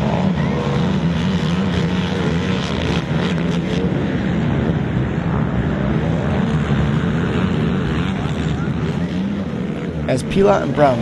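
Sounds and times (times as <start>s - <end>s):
quad engines revving: 0.0s - 11.0s.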